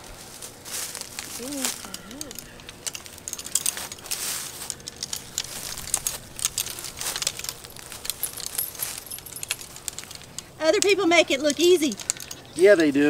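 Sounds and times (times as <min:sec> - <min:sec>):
fence posts knocking and rattling: 0:00.0 - 0:13.0
netting rustling: 0:00.0 - 0:13.0.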